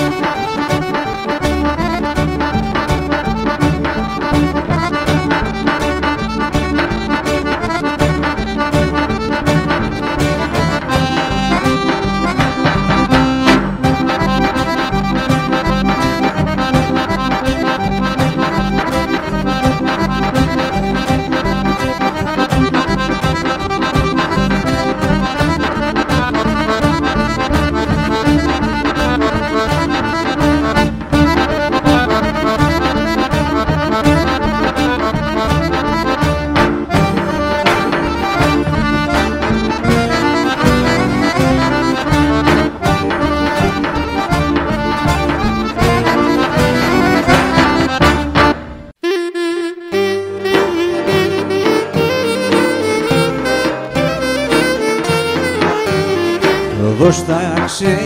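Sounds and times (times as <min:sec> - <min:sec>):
accordion melody: 0:00.0 - 0:58.0
lute playing: 0:00.0 - 0:58.0
large drum beating: 0:00.1 - 0:48.7.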